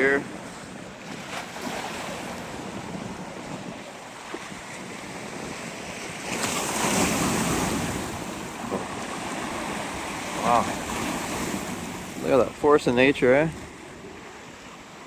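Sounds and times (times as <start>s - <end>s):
ocean surf pounding shore: 0.0s - 15.0s
wind buffeting microphone: 0.0s - 15.0s
wave crashing: 1.0s - 14.2s.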